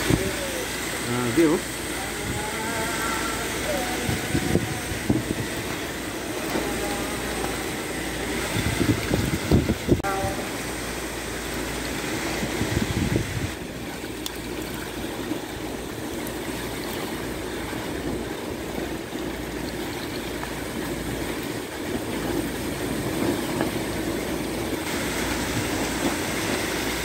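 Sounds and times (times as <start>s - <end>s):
wind buffeting microphone: 0.0s - 10.4s, 11.6s - 27.0s.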